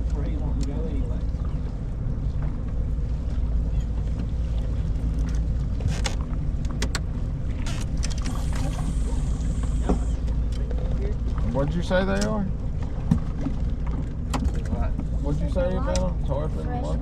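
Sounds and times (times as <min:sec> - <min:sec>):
boat engine low rumble: 0:00.0 - 0:17.0.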